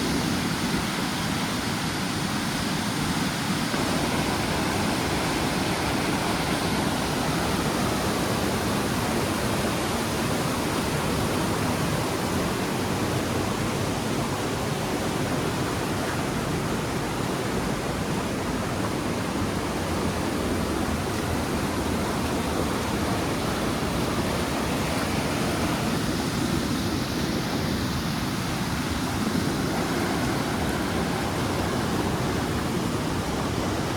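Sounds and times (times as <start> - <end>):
heavy water rushing across street: 0.0 - 33.9.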